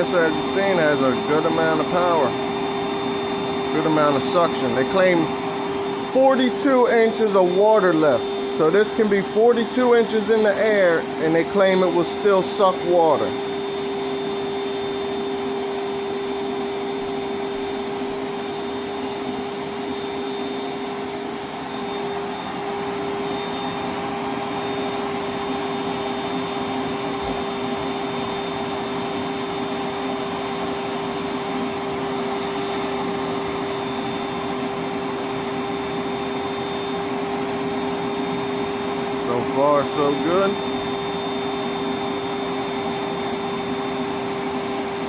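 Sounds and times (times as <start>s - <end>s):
wet dry vacuum running: 0.0s - 45.0s.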